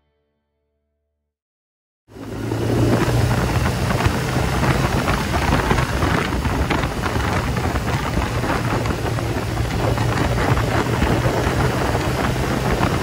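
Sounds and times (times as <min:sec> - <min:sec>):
motorcycle engine hum: 0:02.1 - 0:13.0
wind buffeting microphone: 0:02.1 - 0:13.0.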